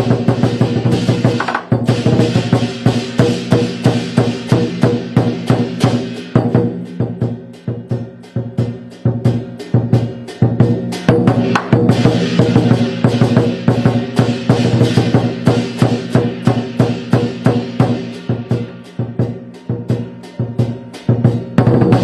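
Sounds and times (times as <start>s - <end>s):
crashing cymbals: 0.0s - 22.0s
drum beating steady pulse: 0.0s - 22.0s.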